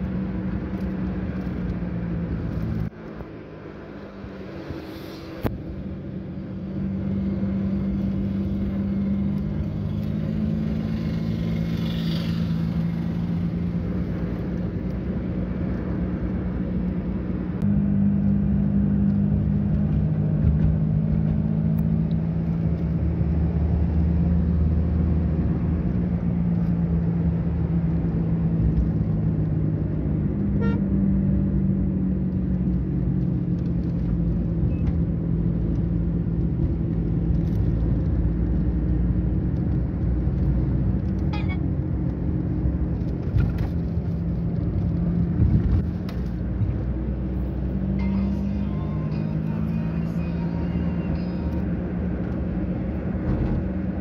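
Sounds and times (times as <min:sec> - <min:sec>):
car engine and road hum: 0:00.0 - 0:54.0.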